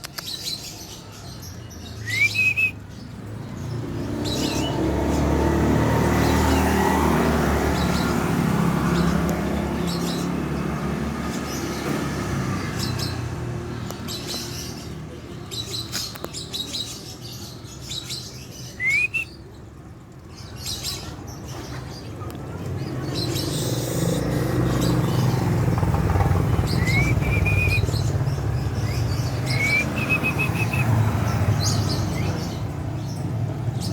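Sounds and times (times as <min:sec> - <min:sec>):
bird chirping: 0:00.0 - 0:06.8, 0:07.6 - 0:19.6, 0:20.4 - 0:33.9.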